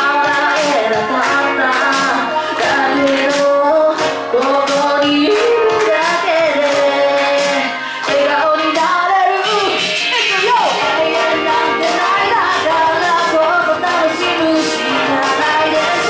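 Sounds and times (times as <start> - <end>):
backing music: 0.0 - 16.0
woman singing into microphone: 0.0 - 16.0.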